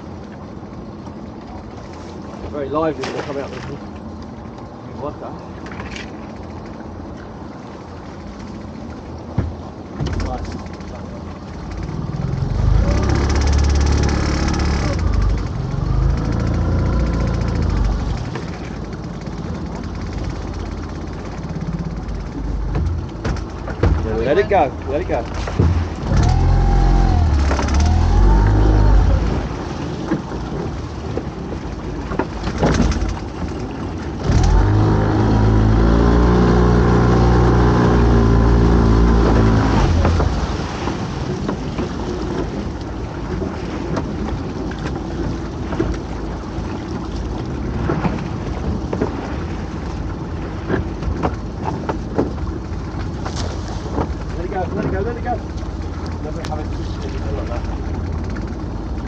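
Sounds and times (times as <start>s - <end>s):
boat engine revving: 9.5s - 59.0s.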